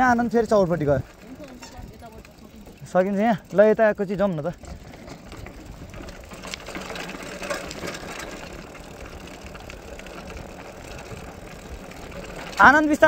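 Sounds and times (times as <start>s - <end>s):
bike tyres rolling: 0.0s - 13.0s
drivetrain clicking: 0.4s - 13.0s.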